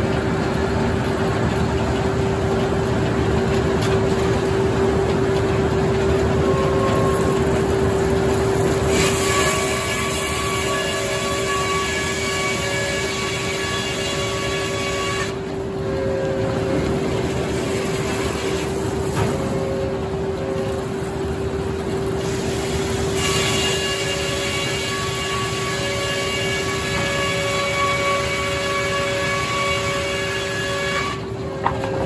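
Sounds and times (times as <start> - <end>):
sawmill machine drone: 0.0 - 32.0.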